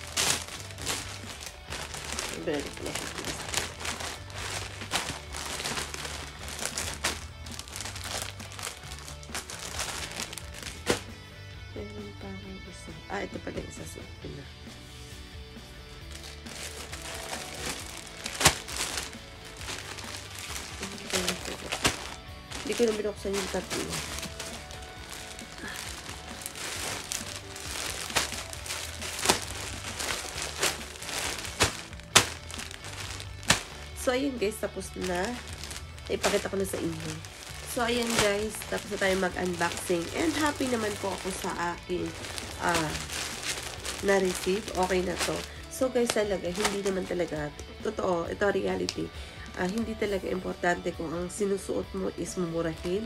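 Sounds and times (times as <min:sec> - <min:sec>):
plastic bag crinkling: 0:00.0 - 0:11.2, 0:16.0 - 0:47.3
background music with bass: 0:00.0 - 0:53.0.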